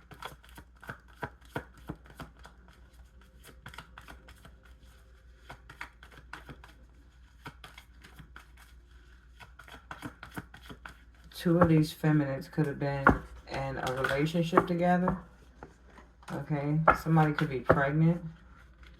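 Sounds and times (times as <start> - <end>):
cards being shuffled: 0.0 - 18.9.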